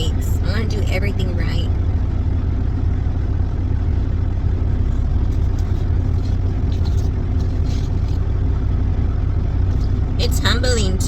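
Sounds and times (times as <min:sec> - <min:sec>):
truck engine drone inside cab: 0:00.0 - 0:11.0.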